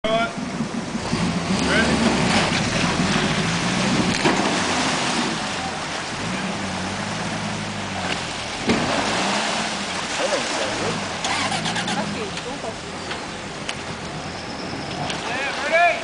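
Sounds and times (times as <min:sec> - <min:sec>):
engines revving under load: 0:00.3 - 0:15.3.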